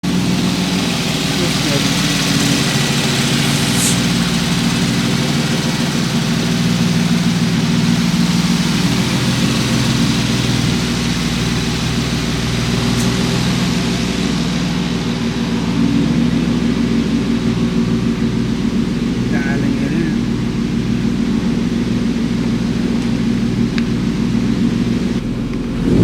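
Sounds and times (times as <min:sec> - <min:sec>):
car engine running steadily: 0:00.0 - 0:26.0.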